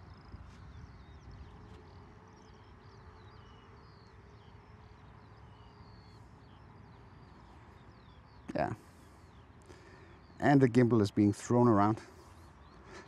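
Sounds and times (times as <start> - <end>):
birds chirping: 0.0 - 13.0
faint steady hum: 0.0 - 13.0.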